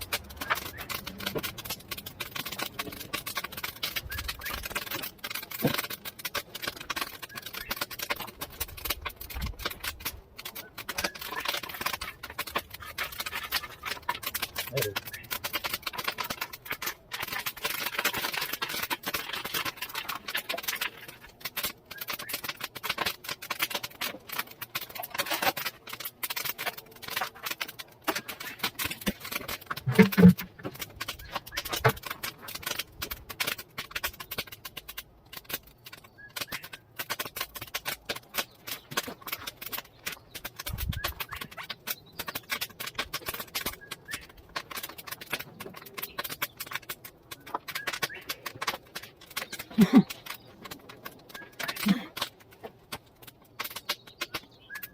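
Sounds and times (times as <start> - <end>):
coal fire crackling and popping: 0.0 - 54.9.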